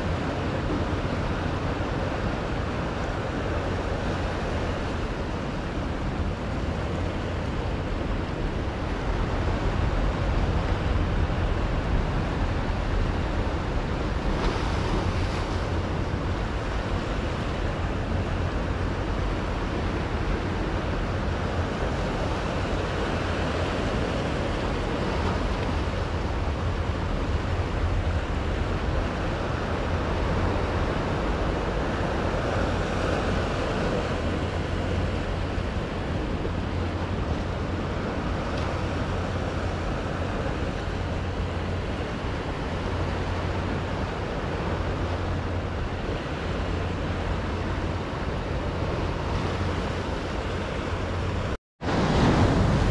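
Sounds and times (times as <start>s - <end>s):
waves washing over rocks: 0.0s - 52.9s
wind rumbling on microphone: 0.0s - 52.9s.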